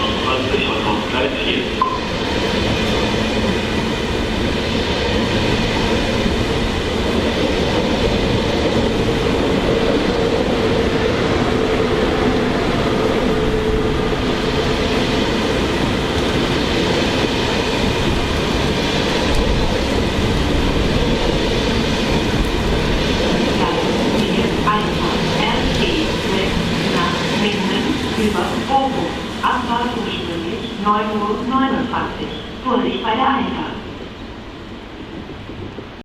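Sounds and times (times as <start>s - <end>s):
train rail running noise: 0.0s - 36.0s.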